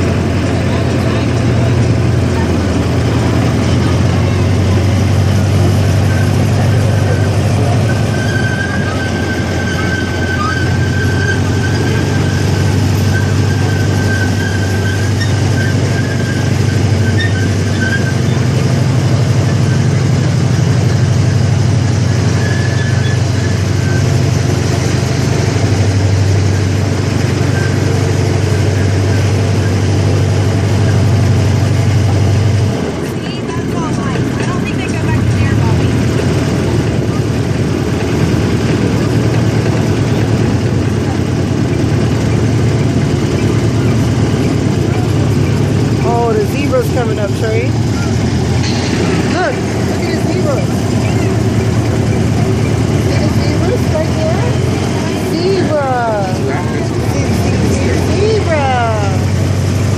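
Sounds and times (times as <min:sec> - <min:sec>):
train engine drone: 0:00.0 - 0:59.9.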